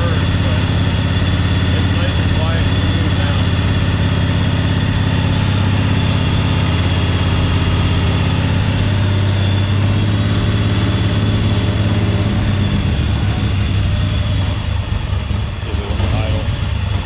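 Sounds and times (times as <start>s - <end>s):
garden tractor engine running: 0.0s - 17.0s.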